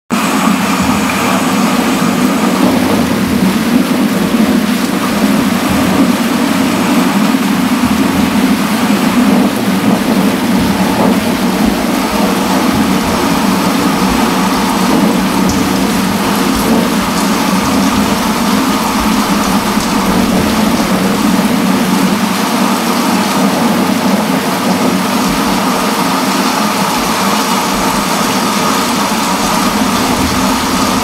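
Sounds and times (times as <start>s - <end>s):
heavy rain on paving and leaves: 0.1s - 31.0s.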